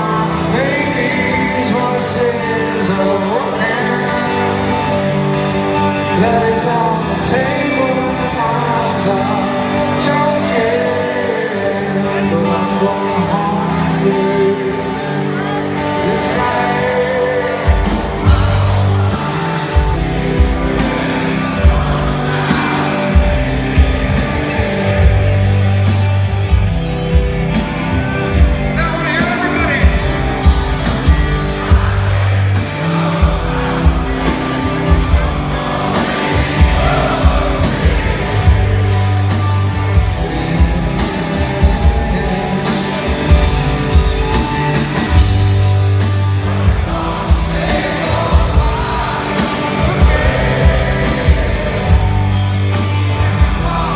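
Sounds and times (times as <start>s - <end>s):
live rock band playing: 0.0s - 53.9s
man singing lead vocal: 0.0s - 53.9s.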